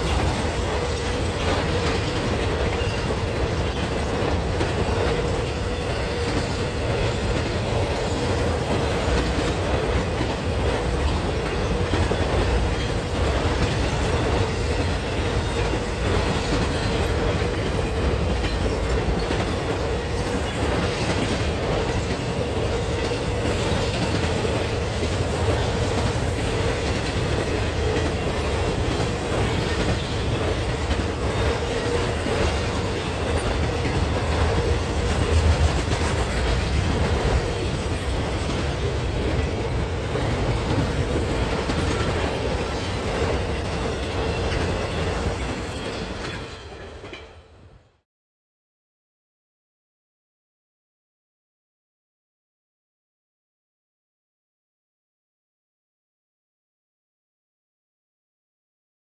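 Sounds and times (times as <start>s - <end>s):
freight train cars rolling past: 0.0s - 47.8s.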